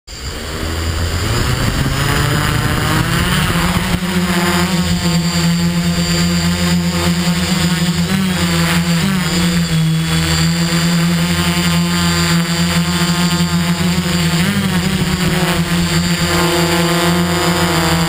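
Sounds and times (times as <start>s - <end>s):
drone propellers buzzing: 0.1s - 18.0s.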